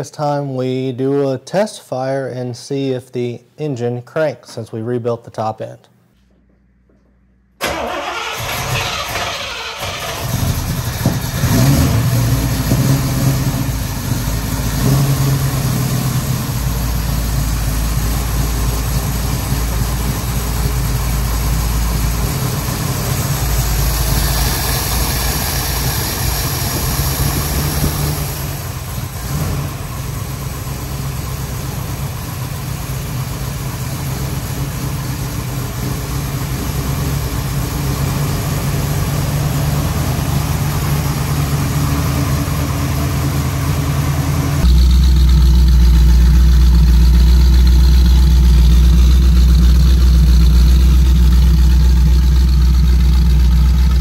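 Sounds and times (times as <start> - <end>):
car engine cranking and idling: 7.6 - 54.0.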